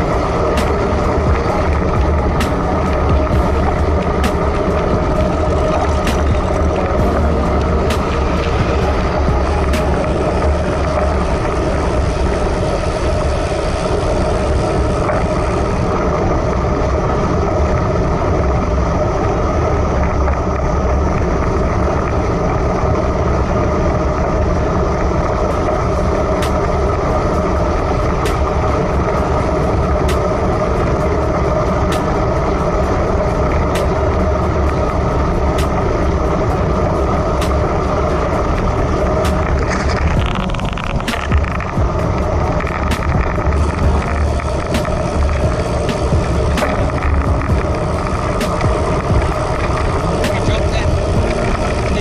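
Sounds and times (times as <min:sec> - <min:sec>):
road noise: 0:00.0 - 0:52.0
wind rushing on microphone: 0:00.0 - 0:52.0.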